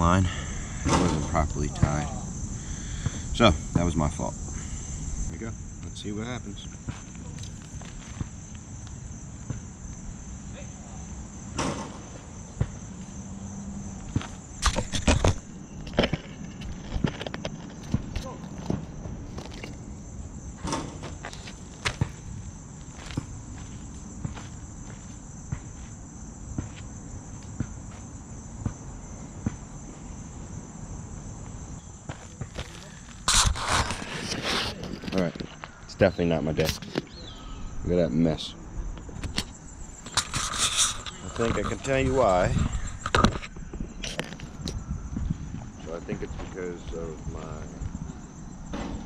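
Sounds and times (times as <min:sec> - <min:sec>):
crickets and insects buzzing: 0:00.0 - 0:49.0.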